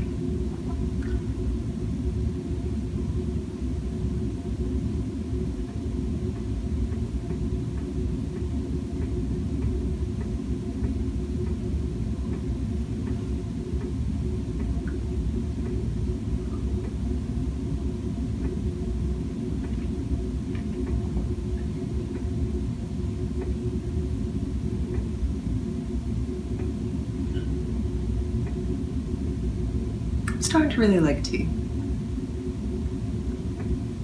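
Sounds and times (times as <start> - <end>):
faint steady hum: 0.0 - 34.0
steady low rumble: 0.0 - 34.0.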